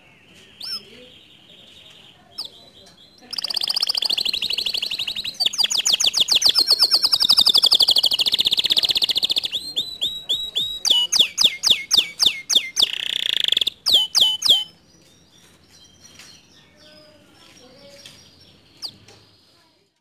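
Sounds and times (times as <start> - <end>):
canary singing: 0.0 - 19.8.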